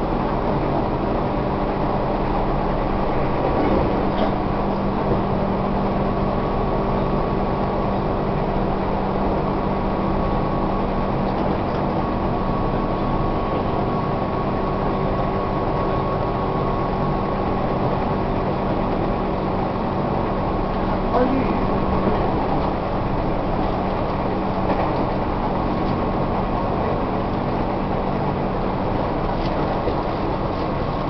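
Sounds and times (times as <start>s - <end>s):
electric train running rumble: 0.0s - 31.0s.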